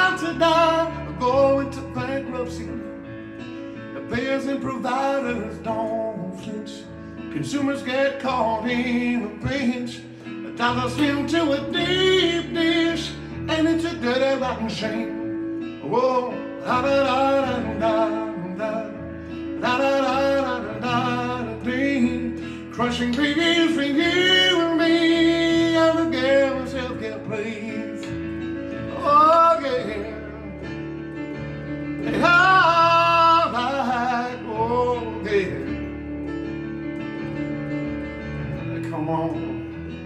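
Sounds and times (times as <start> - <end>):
man singing: 0.0 - 36.1, 38.6 - 40.0
instrumental backing music: 0.0 - 40.0.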